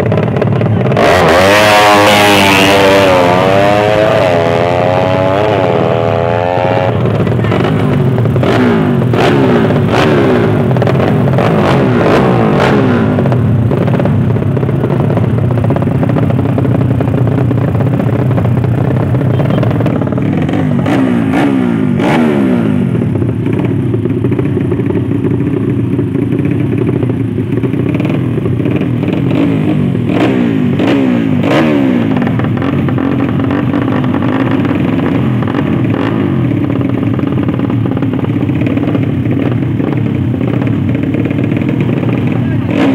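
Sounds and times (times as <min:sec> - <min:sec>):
motorcycle engines revving hard: 0:00.0 - 0:42.9.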